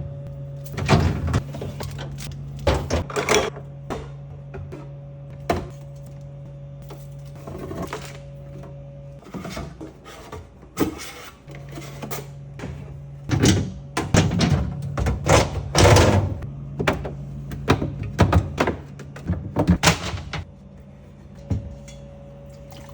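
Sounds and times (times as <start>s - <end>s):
steady low hum: 0.0s - 22.9s
items clunking in a refrigerator: 0.2s - 22.9s.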